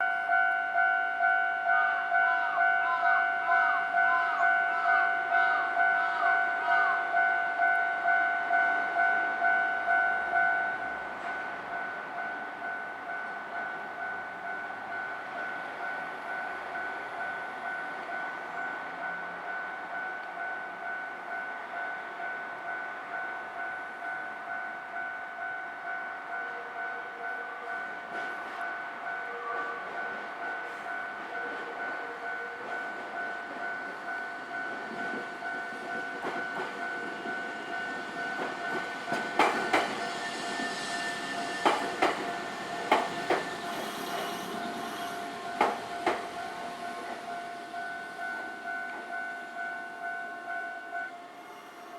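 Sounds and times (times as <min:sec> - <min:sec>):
level crossing warning bell: 0:00.0 - 0:51.6.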